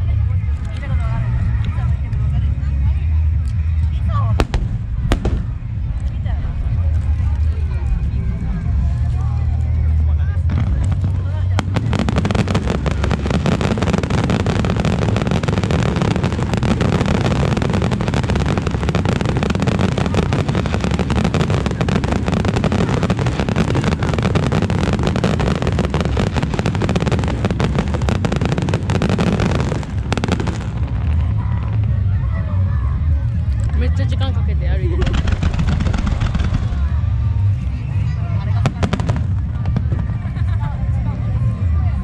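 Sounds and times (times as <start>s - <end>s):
deep rumble: 0.0s - 42.0s
fireworks bursts and crackles: 0.0s - 42.0s.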